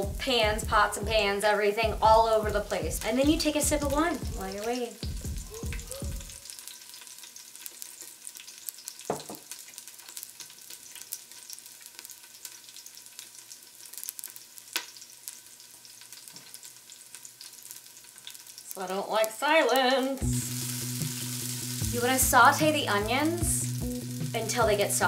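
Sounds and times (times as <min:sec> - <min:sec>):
onions sizzling in hot oil: 0:02.6 - 0:25.0.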